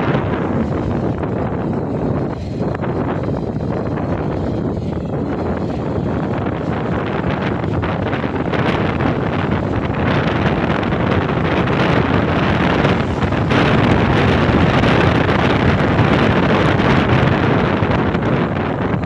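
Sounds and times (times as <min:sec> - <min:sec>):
motorcycle engine and road noise: 0:00.0 - 0:19.0
wind rushing over microphone: 0:00.0 - 0:19.0.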